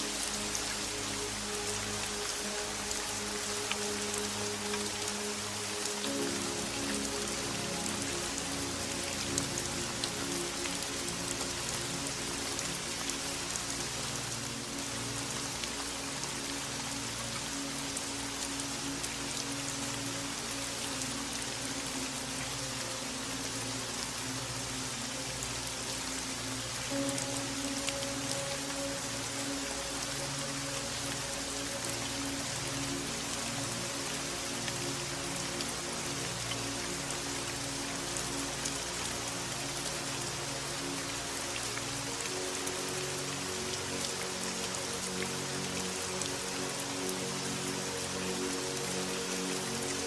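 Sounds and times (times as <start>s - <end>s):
soft low sustained music: 0.0s - 50.0s
steady rain: 0.0s - 50.0s.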